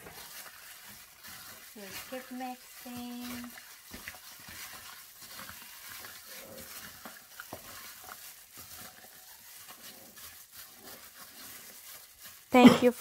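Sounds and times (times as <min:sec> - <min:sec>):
wet squishing of meat in marinade: 0:00.0 - 0:13.0.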